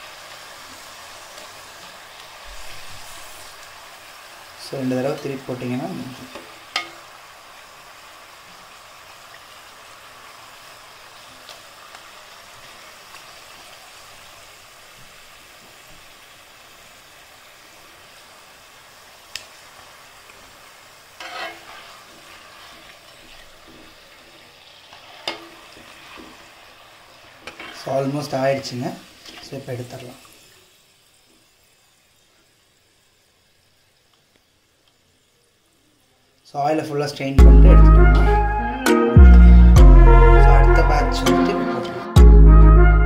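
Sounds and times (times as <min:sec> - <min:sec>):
chips sizzling in hot oil: 0:00.0 - 0:37.4.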